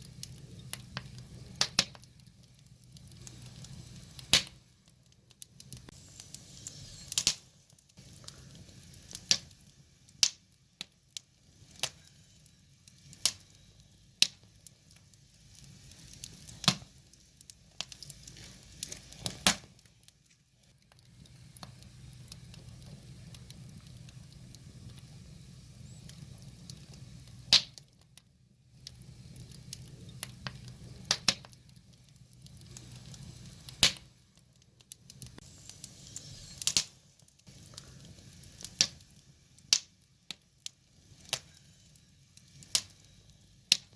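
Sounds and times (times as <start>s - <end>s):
low steady rumble: 0.0s - 43.7s
wood fire crackling and popping: 0.0s - 43.9s.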